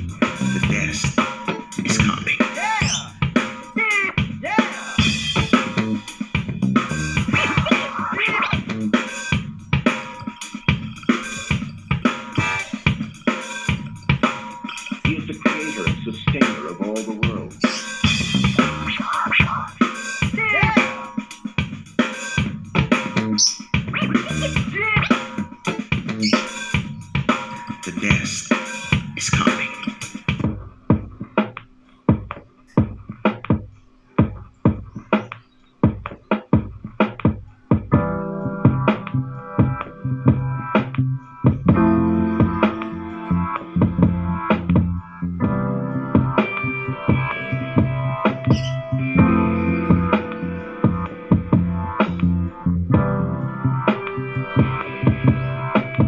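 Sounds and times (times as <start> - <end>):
music with drum beat from speaker: 0.0 - 56.0.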